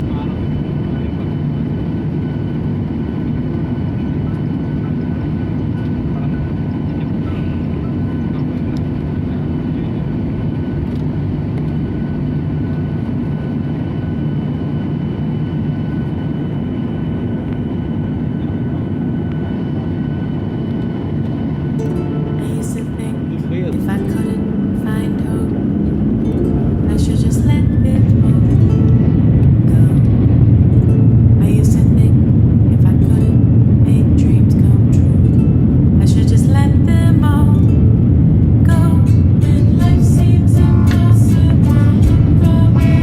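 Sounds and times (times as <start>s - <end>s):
jet engines low rumble: 0.0s - 43.0s
thin engine whine: 0.0s - 43.0s.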